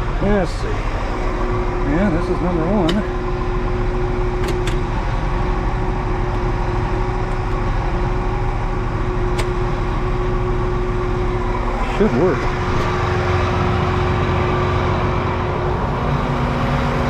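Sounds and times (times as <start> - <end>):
tractor engine whining: 0.0 - 17.0.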